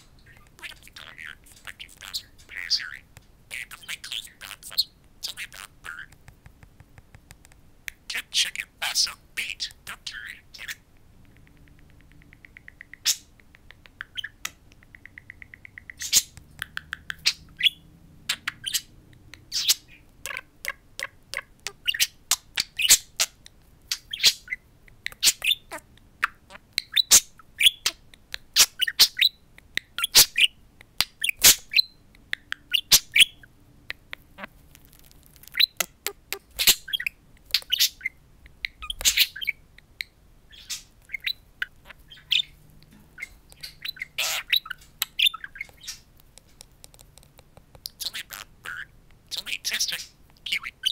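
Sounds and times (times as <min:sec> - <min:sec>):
budgerigar chirping and chattering: 0:00.0 - 0:06.2, 0:07.9 - 0:42.6, 0:43.2 - 0:46.1, 0:47.8 - 0:50.9.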